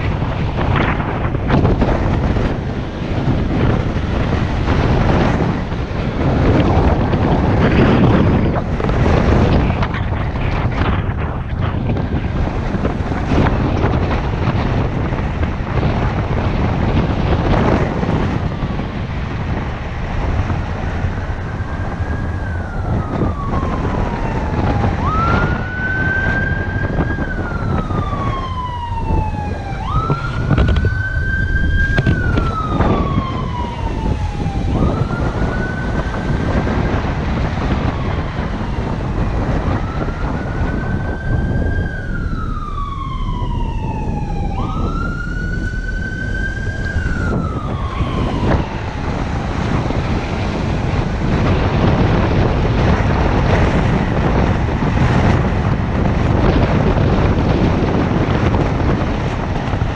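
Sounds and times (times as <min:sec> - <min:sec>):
siren wailing: 0:00.0 - 0:59.9
wind and road noise: 0:00.0 - 0:59.9.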